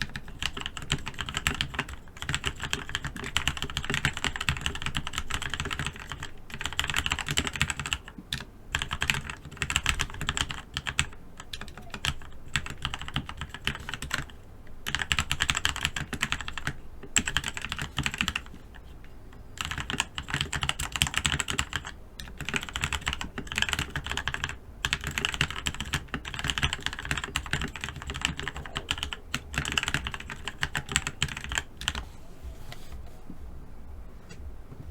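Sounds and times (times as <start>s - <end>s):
mechanical keyboard typing: 0.0s - 18.6s, 19.6s - 32.1s.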